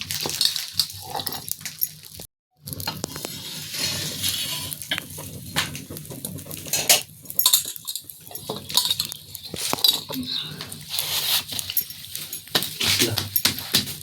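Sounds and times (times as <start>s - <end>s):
metal utensils clinking on pots: 0.0s - 14.0s.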